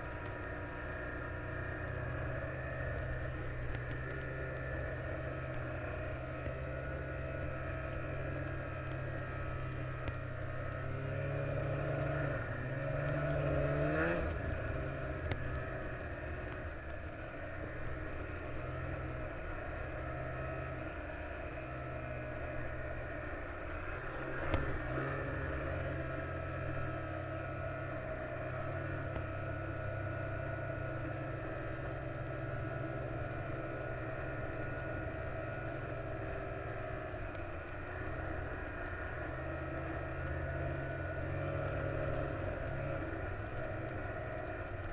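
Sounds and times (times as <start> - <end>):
road noise: 0.0 - 44.9
vehicle engine running: 0.0 - 44.9.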